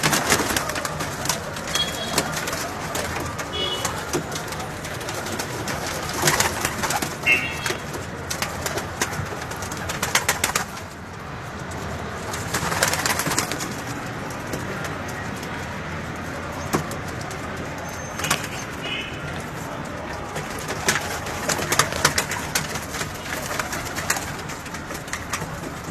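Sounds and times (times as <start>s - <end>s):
clicks and rustles: 0.0s - 25.9s.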